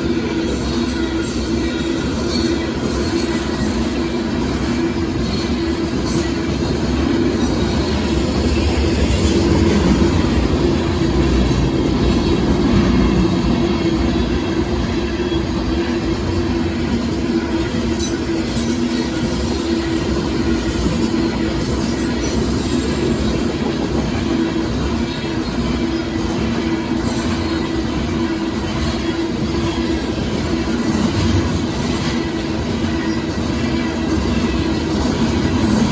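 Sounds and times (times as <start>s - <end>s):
freight train rolling past: 0.0s - 35.9s.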